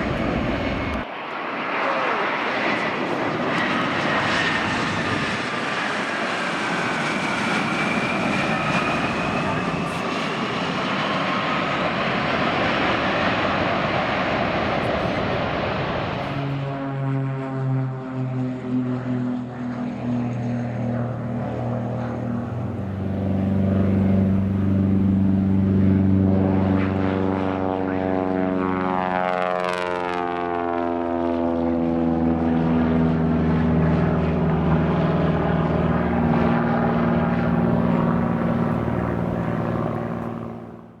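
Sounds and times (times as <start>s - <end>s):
propeller airplane passing: 0.0s - 41.0s.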